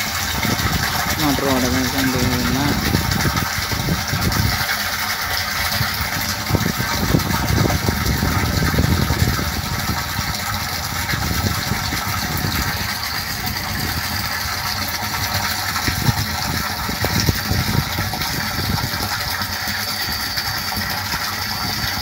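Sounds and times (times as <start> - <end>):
water gushing into a tank: 0.0 - 22.0.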